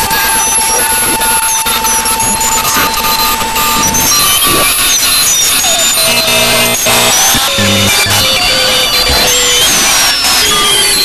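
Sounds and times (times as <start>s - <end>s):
short electronic beeps and chirps: 0.0s - 11.0s
low electronic buzz: 0.7s - 10.2s.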